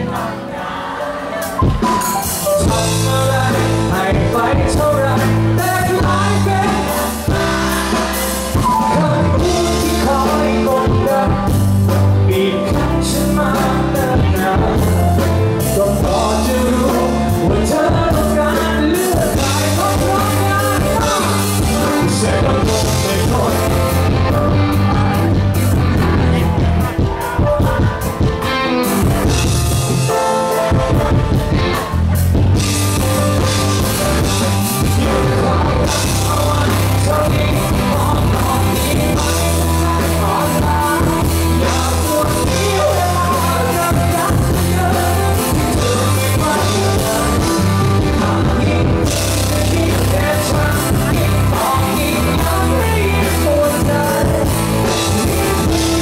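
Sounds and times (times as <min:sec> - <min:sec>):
pop-rock band with male vocal: 0:00.0 - 0:56.0.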